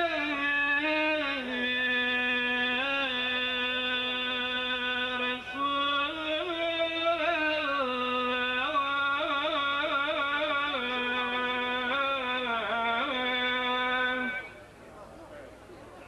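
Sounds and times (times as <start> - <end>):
man chanting: 0.0 - 14.6.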